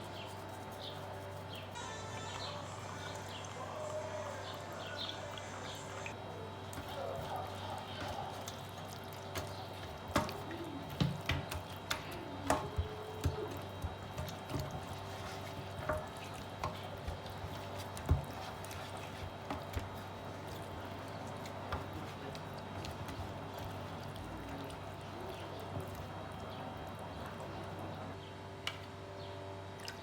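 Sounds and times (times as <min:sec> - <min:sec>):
appliance hum: 0:00.0 - 0:30.0
liquid sounds: 0:00.2 - 0:28.2.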